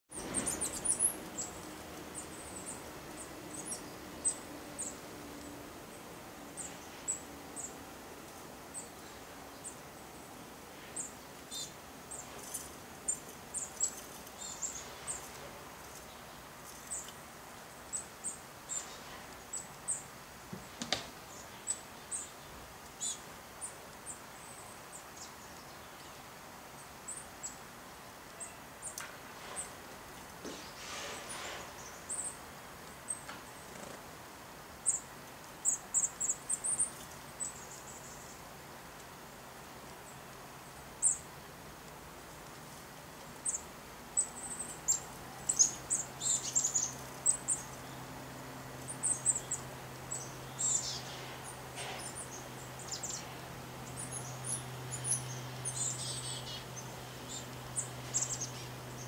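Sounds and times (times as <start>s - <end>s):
faint outdoor background noise: 0.0s - 59.0s
songbirds chirping: 0.1s - 59.0s.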